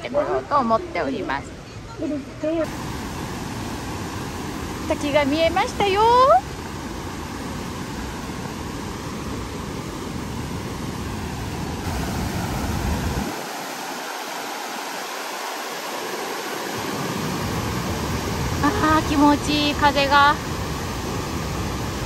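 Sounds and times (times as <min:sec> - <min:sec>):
waterfall and rapids rushing: 0:00.0 - 0:22.0.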